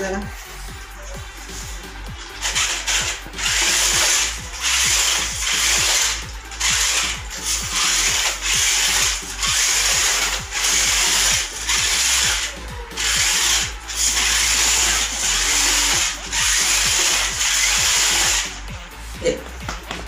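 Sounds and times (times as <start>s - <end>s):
toy car motor whirring: 0.8s - 18.8s.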